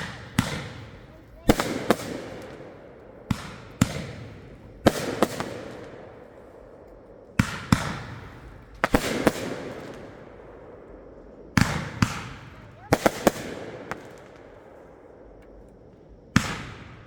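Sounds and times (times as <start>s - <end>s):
fireworks bangs with echo: 0.0s - 17.0s.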